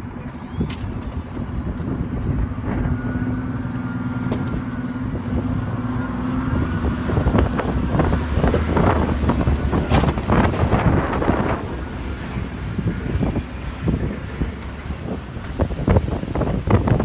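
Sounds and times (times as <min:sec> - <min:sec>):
snowplow engine running: 0:00.0 - 0:17.0.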